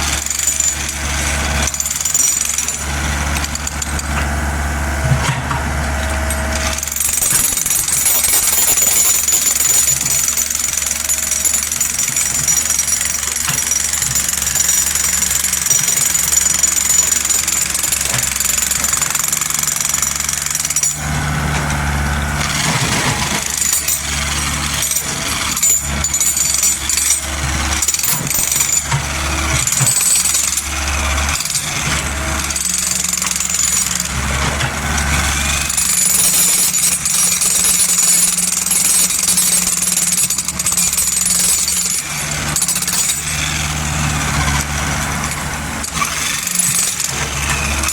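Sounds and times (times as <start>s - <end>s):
excavator diesel engine rattling: 0.0s - 47.9s.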